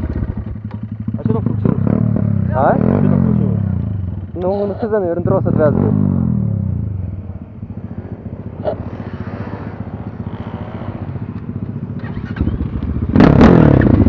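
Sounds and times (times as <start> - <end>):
motorcycle engine idling: 0.0 - 14.0
motorcycle engine revving: 0.0 - 14.0.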